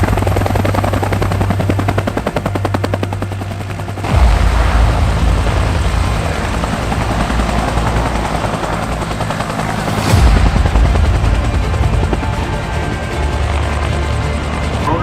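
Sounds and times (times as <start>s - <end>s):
helicopter flying: 0.0s - 15.0s.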